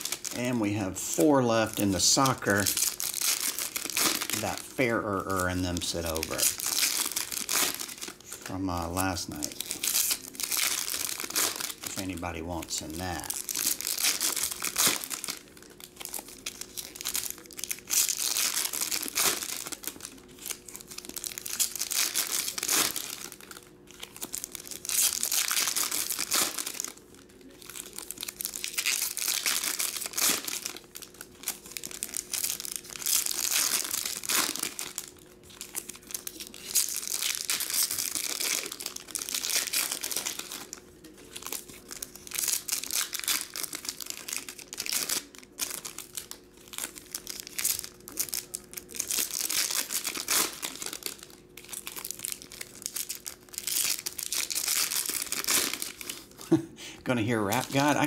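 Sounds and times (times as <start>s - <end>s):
foil wrappers crinkling and tearing: 0.0s - 58.0s.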